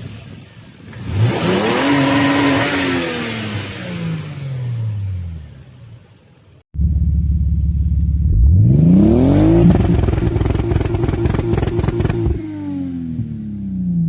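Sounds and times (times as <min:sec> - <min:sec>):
car engine revving: 0:00.0 - 0:14.0
exhaust crackling: 0:00.0 - 0:14.0.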